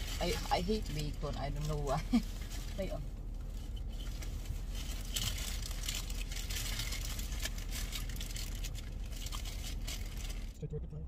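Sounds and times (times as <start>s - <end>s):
paper wrappers crinkling: 0.0s - 10.6s
low hum inside car: 0.0s - 11.0s.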